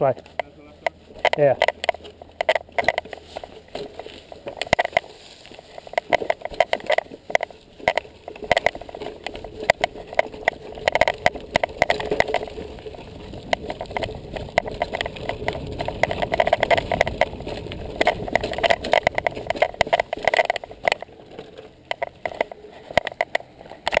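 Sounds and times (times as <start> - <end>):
mountain bike rattling: 0.0 - 24.0
tyre noise on dirt: 0.0 - 24.0.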